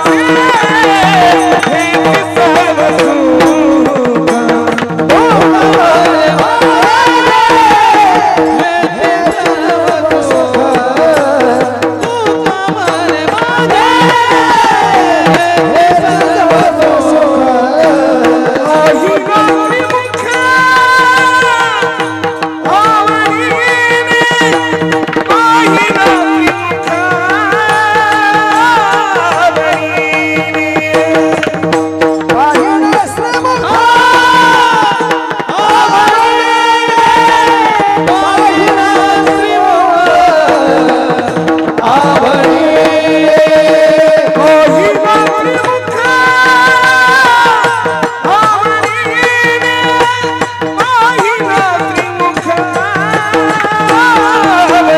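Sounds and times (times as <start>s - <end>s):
man singing devotional melody: 0.0s - 54.9s.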